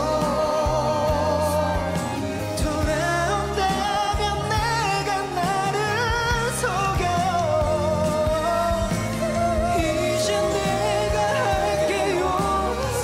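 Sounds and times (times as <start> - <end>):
bass and drum backing: 0.0 - 13.0
man singing with vibrato: 0.0 - 13.0.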